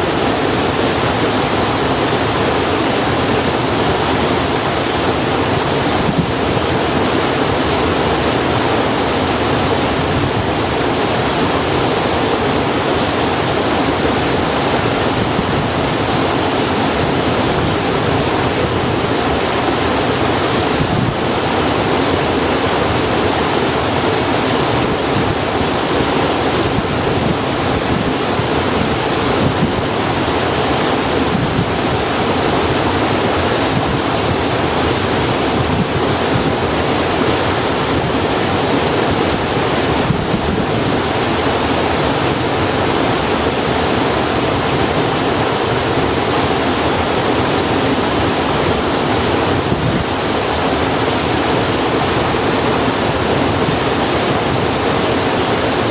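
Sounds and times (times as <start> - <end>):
running water rushing: 0.0 - 55.9.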